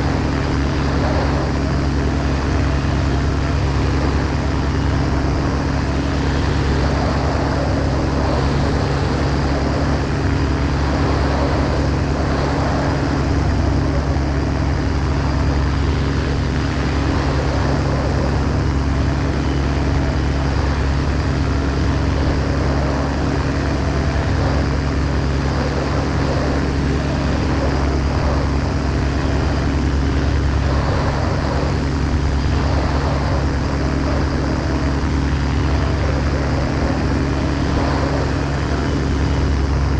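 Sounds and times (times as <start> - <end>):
aircraft engine and propeller drone: 0.0 - 39.9
airflow noise: 0.0 - 39.9.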